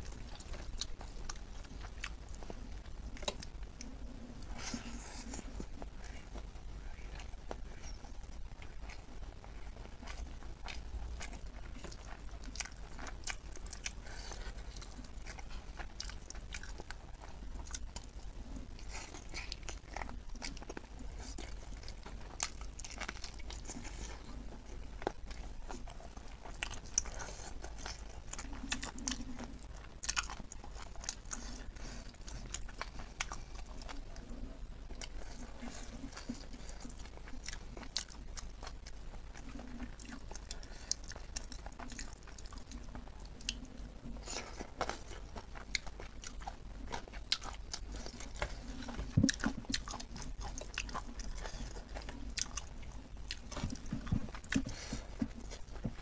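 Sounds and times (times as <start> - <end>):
steady low hum: 0.0 - 56.0
wet chewing and smacking: 0.0 - 56.0.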